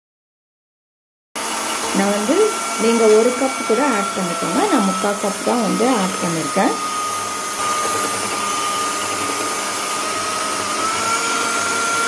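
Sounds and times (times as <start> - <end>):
electric hand mixer whining: 1.4 - 12.0.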